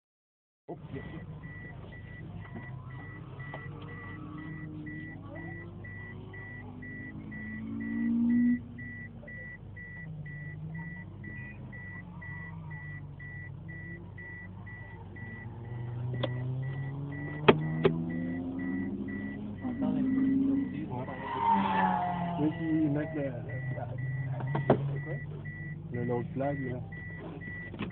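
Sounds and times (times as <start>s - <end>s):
car engine idling and revving: 0.7s - 27.9s
high electronic beep: 1.0s - 27.9s.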